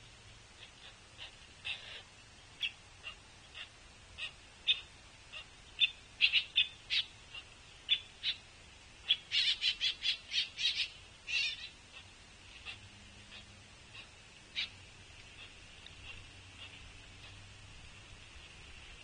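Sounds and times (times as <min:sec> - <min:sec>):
woodpecker hoarse begging calls: 0:00.6 - 0:08.4, 0:09.0 - 0:17.5.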